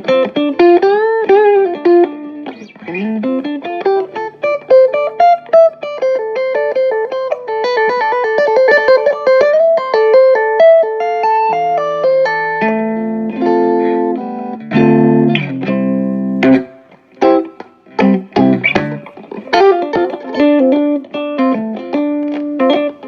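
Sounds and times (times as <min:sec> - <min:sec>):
electric guitar through amplifier: 0:00.0 - 0:23.0.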